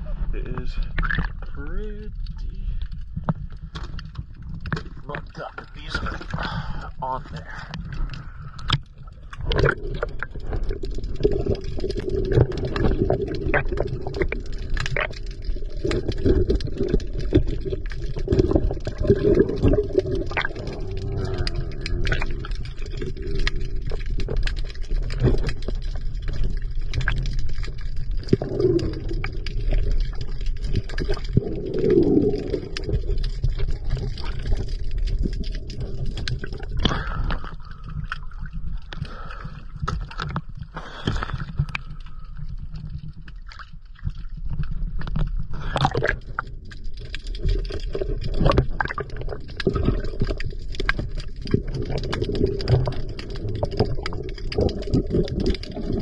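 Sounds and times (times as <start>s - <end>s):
gurgling bubbles from diver breathing: 0.0s - 56.0s
low underwater rumble: 0.0s - 56.0s.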